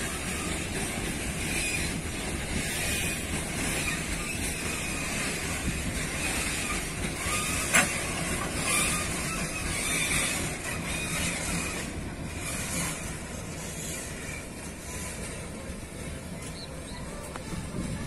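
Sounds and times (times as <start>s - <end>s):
freight train wheels rumbling: 0.0s - 18.0s
wheels squealing: 0.0s - 18.0s.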